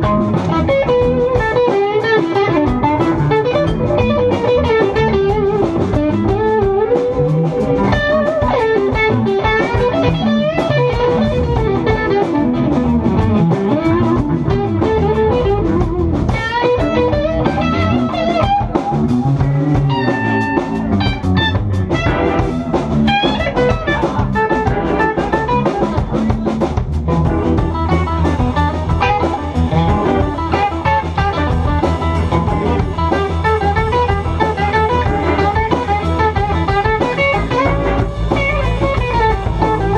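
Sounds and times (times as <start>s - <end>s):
bass guitar: 0.0s - 39.9s
drum kit: 0.0s - 39.9s
electric guitar lead lines: 0.0s - 39.9s.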